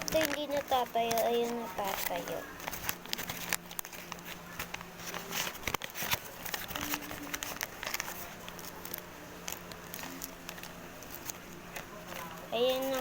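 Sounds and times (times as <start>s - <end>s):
faint steady hum: 0.0s - 13.0s
packaging rustling and clicking: 0.0s - 13.0s.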